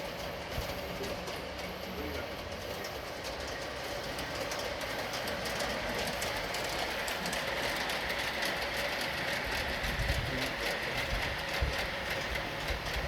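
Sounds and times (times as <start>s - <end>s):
light rapid clicks of wheels: 0.0s - 13.0s
model train motors whirring: 0.0s - 13.0s.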